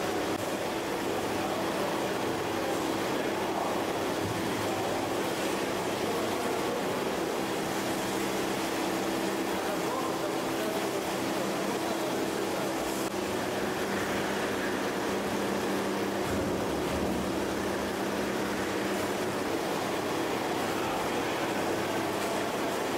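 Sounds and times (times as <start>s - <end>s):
conveyor and motors droning: 0.0s - 22.9s.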